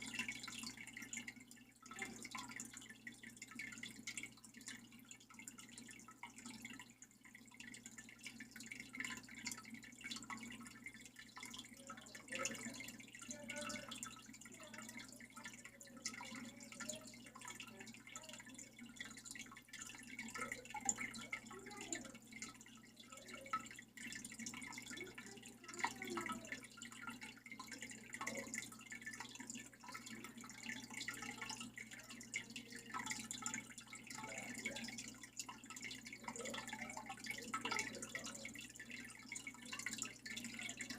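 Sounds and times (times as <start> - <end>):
water dripping and trickling: 0.0 - 40.9.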